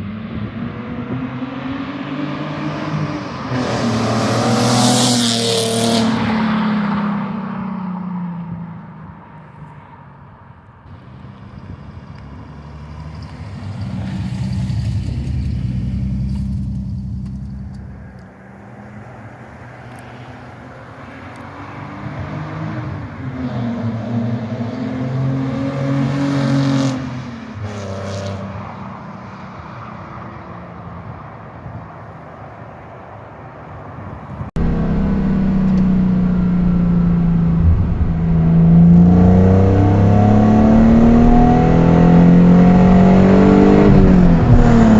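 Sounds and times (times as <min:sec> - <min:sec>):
car engine accelerating: 0:00.0 - 0:08.6, 0:10.9 - 0:28.4, 0:34.4 - 0:44.9
sports car driving past: 0:00.0 - 0:10.0, 0:10.9 - 0:30.6, 0:34.4 - 0:44.9.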